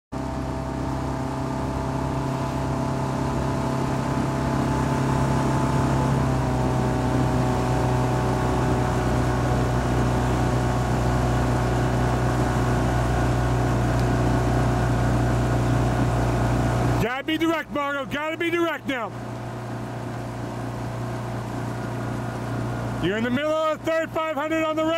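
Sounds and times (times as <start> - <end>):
outboard motor running: 0.1 - 24.9.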